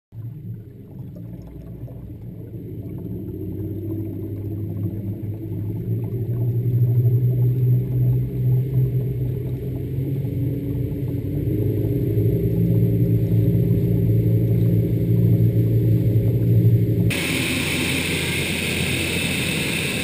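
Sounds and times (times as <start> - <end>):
water rushing around hull: 0.2 - 20.0
outboard motors throttling up: 0.3 - 20.0.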